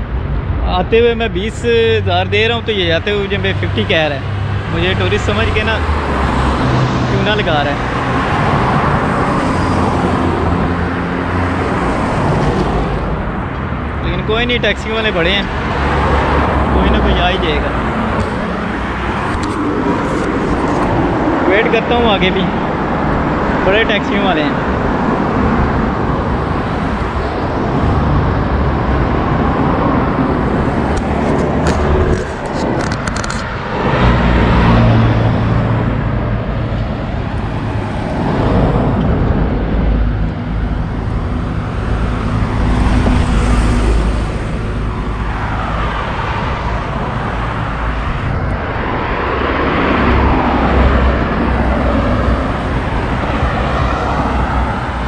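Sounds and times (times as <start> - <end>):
cars and vans driving past: 0.0 - 55.0.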